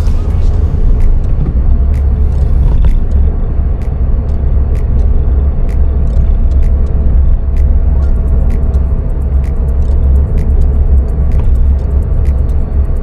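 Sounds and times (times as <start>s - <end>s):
engine and road rumble in car: 0.0s - 13.0s
light sharp ticks: 1.0s - 13.0s.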